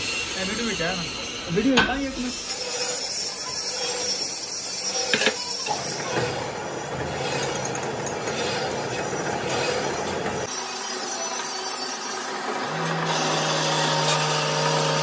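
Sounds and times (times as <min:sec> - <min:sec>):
machine running noise: 0:00.0 - 0:15.0.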